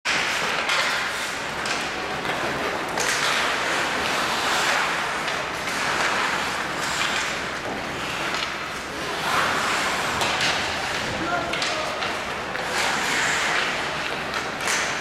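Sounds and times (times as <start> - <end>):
skates scraping ice: 0.1 - 15.0
sticks and puck clacking: 0.1 - 15.0.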